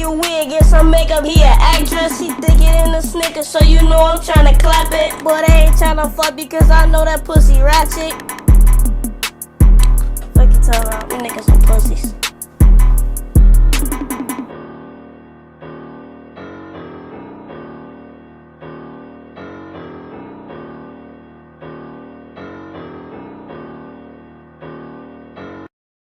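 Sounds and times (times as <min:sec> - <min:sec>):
piano chords: 0:00.0 - 0:25.7.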